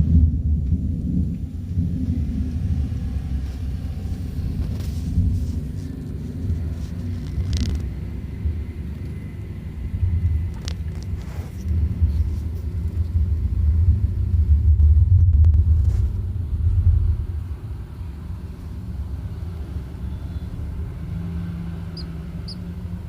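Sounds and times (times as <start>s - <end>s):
uneven low rumble: 0.0s - 23.0s.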